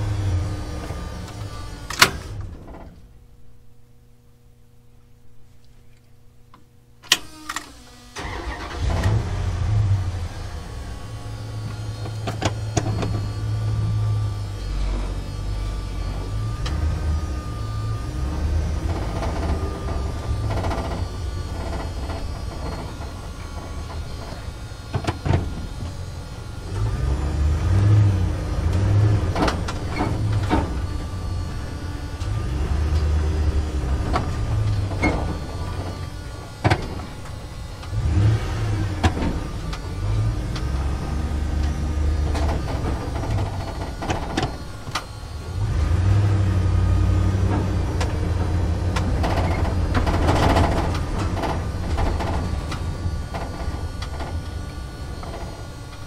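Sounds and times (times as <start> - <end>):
truck engine rumble: 0.0 - 3.5, 8.2 - 56.0.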